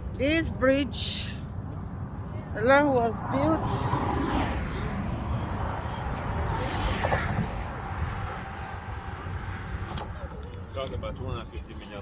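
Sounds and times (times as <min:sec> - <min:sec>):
traffic noise: 0:00.0 - 0:12.0
wind rumble on microphone: 0:00.0 - 0:12.0.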